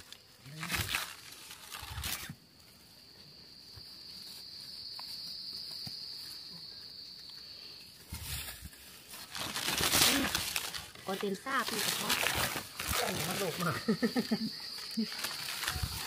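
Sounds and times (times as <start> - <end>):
insect buzzing: 0.0 - 16.0
soil and leaves scratched: 0.0 - 16.0.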